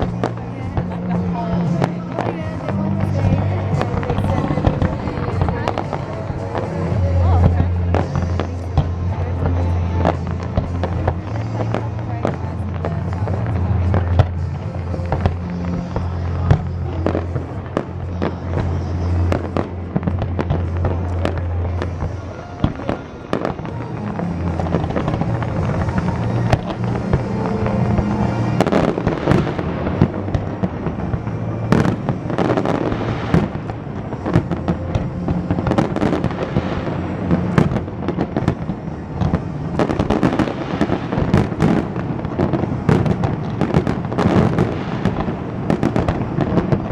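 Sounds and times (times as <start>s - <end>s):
aerial fireworks bursting and crackling: 0.0s - 46.9s
music with steady bass: 0.0s - 46.9s.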